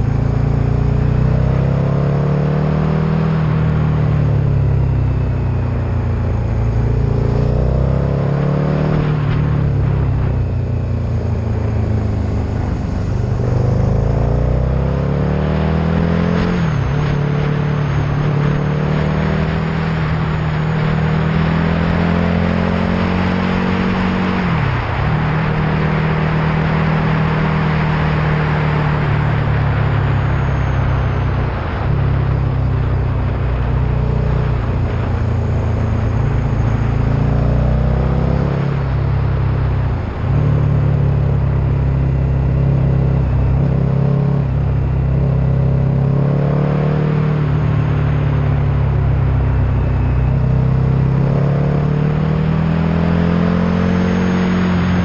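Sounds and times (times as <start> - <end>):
vehicle engine at speed: 0.0 - 55.0
wind and tyre noise: 0.0 - 55.0.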